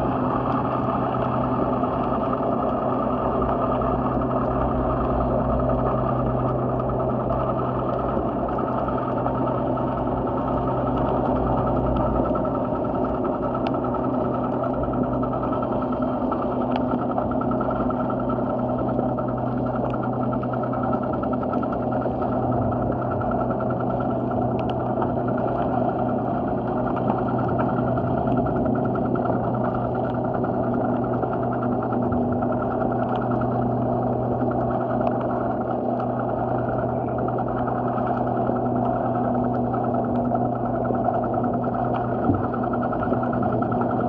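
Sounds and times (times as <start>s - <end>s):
mechanical drone: 0.0s - 44.0s.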